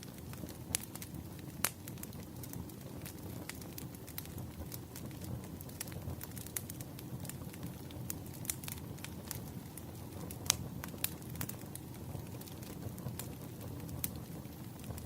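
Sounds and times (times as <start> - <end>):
fire popping and snapping: 0.0 - 15.0
firewood crackling: 0.0 - 15.0
low rumble of fire: 0.0 - 15.0.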